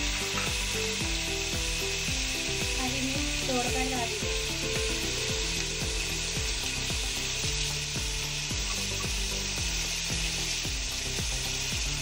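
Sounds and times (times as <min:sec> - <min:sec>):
background music with low beat: 0:00.0 - 0:12.0
vegetables sizzling in hot oil: 0:00.0 - 0:12.0.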